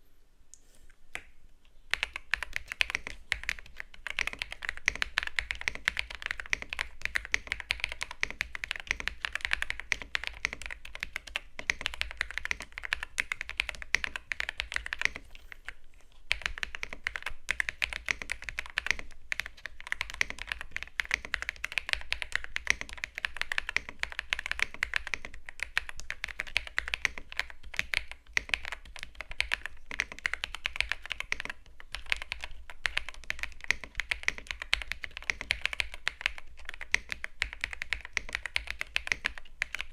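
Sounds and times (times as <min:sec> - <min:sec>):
mechanical keyboard typing: 0:01.9 - 0:39.9.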